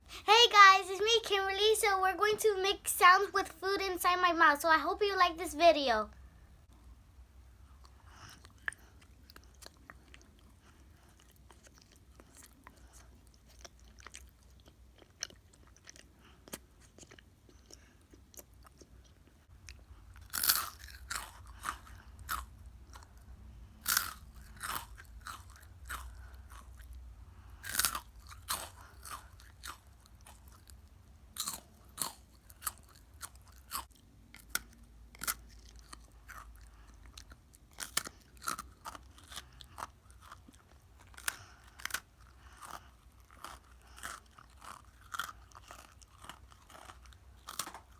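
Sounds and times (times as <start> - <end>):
chewing crunchy food: 7.7 - 47.9.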